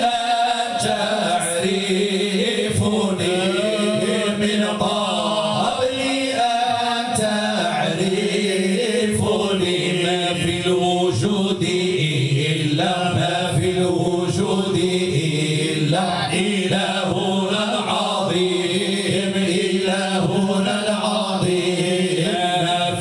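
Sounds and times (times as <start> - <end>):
men chanting into microphones: 0.0 - 23.0.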